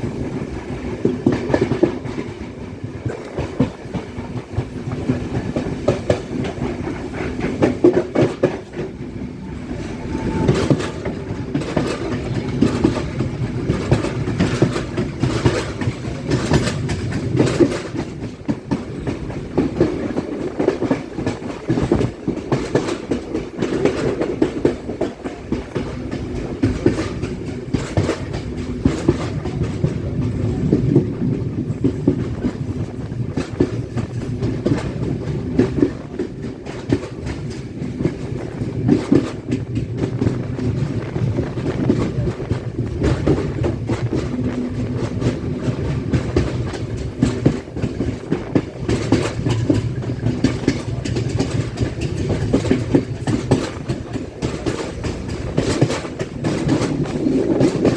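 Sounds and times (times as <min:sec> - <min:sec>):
train wheels clacking on rails: 0:00.0 - 0:57.9.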